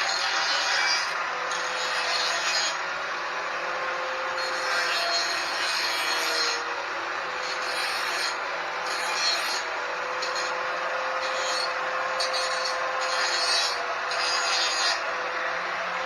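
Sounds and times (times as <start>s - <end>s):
angle grinder cutting metal: 0.0s - 16.0s.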